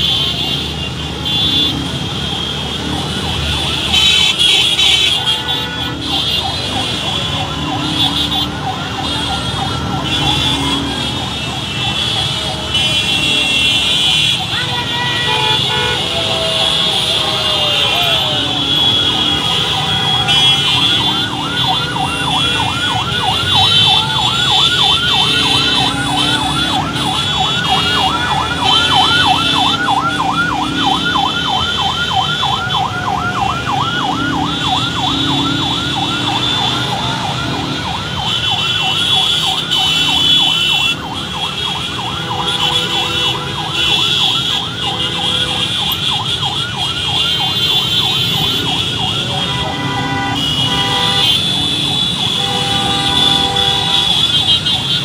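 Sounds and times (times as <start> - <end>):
motorbike and car traffic: 0.0 - 55.0
siren yelping: 2.3 - 54.3.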